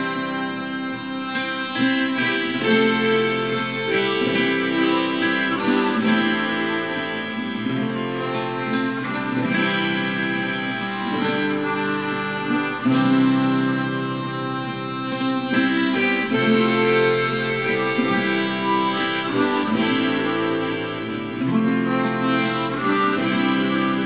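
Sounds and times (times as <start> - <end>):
guitar accompaniment: 0.0 - 24.0
harmonica melody: 0.0 - 24.0.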